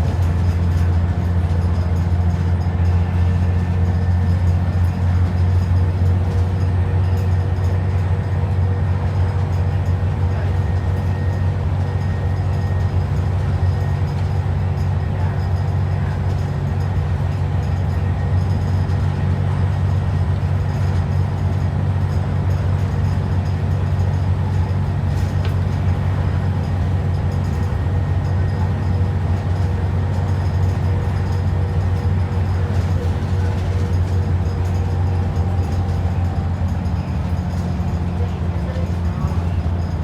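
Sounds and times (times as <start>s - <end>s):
bus engine droning: 0.0s - 40.0s.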